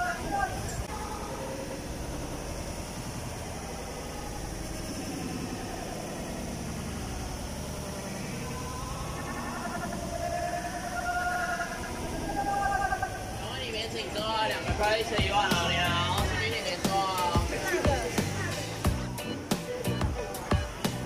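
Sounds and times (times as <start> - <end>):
indistinct chatter: 0.0 - 21.0.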